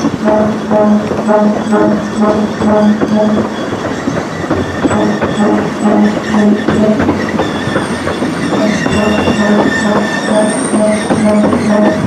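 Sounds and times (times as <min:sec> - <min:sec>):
train rumble: 0:00.0 - 0:12.0
train wheels clicking over rail joints: 0:00.0 - 0:12.0
wheels squealing on rail: 0:00.0 - 0:12.0.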